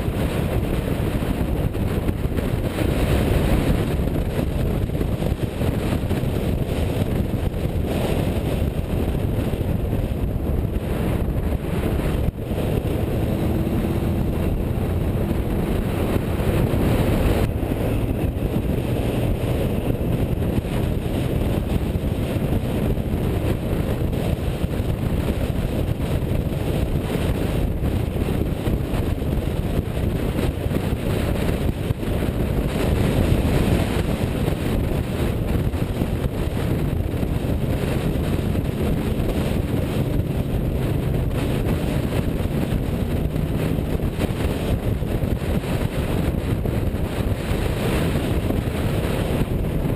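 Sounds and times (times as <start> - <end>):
car engine driving: 0.0 - 49.9
road noise: 0.0 - 49.9
wind buffeting microphone: 0.0 - 49.9.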